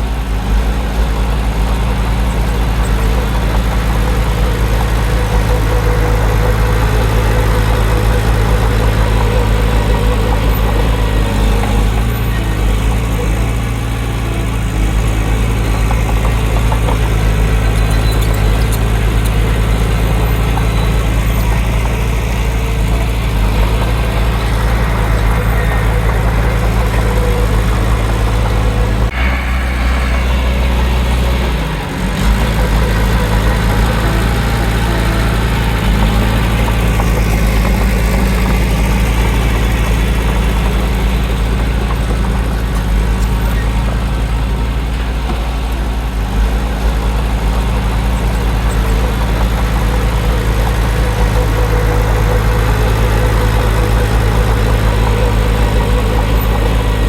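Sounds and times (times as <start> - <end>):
diesel earthmoving machinery running: 0.0 - 57.0.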